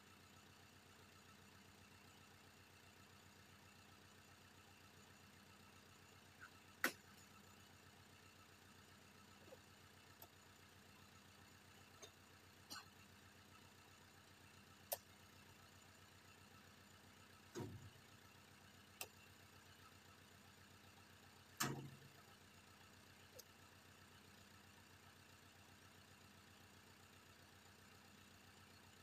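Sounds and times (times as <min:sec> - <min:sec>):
faint engine hum: 0:00.0 - 0:29.0.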